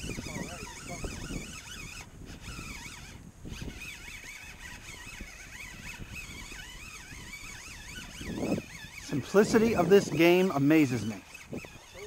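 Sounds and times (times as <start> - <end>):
fishing reel gear whine: 0.0 - 12.0
wind noise on microphone: 0.0 - 12.0.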